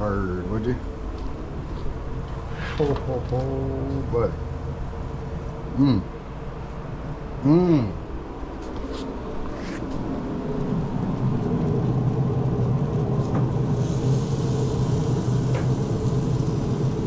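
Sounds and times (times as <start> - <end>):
grill fan humming: 0.0 - 17.0.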